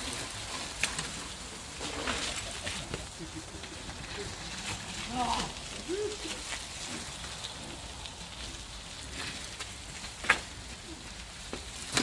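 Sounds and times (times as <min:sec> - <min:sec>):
steady crackling noise: 0:00.0 - 0:12.0.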